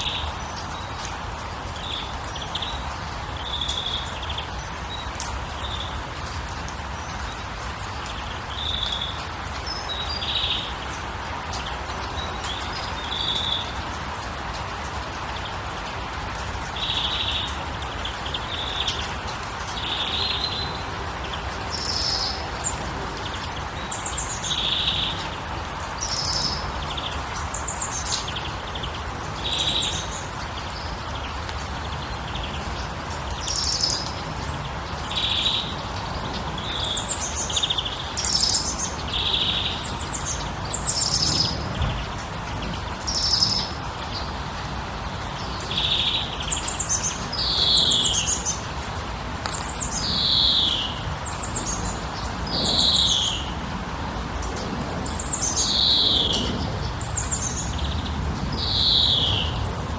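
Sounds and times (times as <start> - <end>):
songbirds chirping and singing: 0.0 - 53.7.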